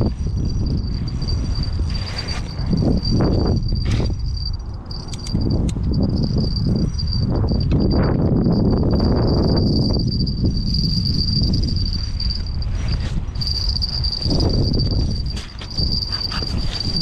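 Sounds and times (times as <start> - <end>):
high-pitched whine: 0.0 - 17.0
low rumbling noise: 0.0 - 17.0.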